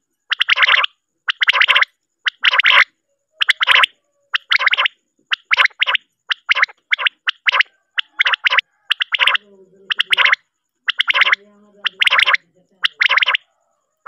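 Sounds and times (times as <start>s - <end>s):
recorded quail calls: 0.0s - 14.0s.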